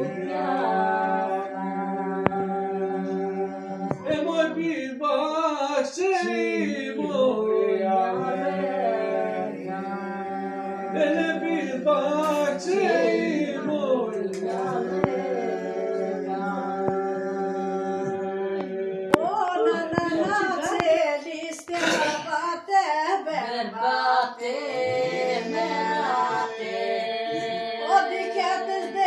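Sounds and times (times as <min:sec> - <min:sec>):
several voices singing folk song: 0:00.0 - 0:29.0.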